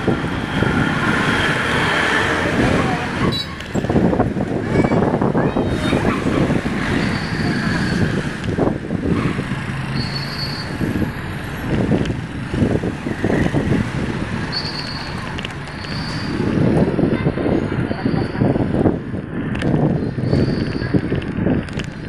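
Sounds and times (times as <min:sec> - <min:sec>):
motorcycle and car engines: 0:00.0 - 0:22.0
road noise: 0:00.0 - 0:22.0
wind buffeting microphone: 0:00.0 - 0:22.0.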